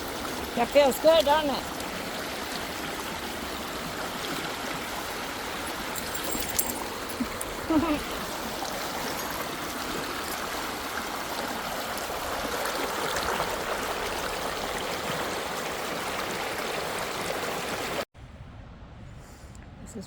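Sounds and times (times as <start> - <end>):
stream water rushing: 0.0 - 18.1.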